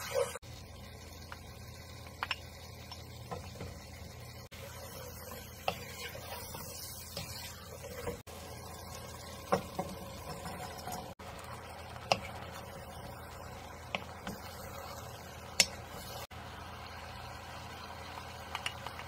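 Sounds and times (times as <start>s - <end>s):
chicken and onions sizzling: 0.0s - 19.0s.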